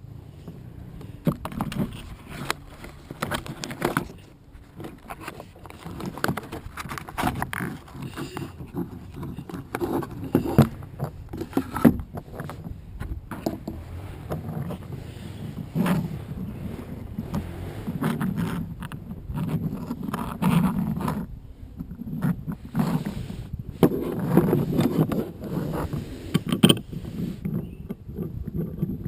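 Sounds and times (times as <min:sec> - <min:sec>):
hands handling wooden toy: 0:00.4 - 0:29.0.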